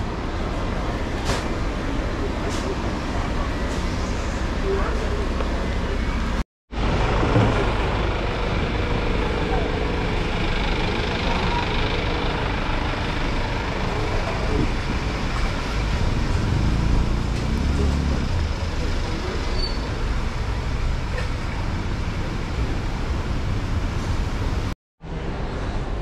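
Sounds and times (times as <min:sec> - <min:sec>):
street traffic noise: 0:00.0 - 0:26.0
vehicle engine rumble: 0:00.0 - 0:26.0.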